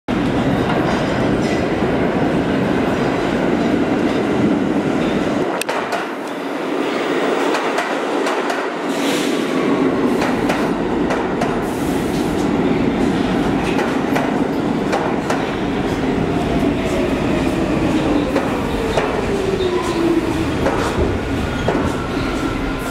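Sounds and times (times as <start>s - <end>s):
subway train rumble: 0.1s - 22.9s.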